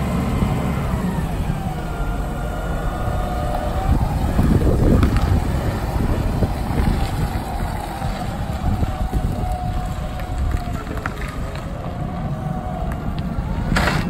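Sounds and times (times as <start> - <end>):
forklift engine running: 0.0 - 14.0
wind rumble on microphone: 0.0 - 14.0.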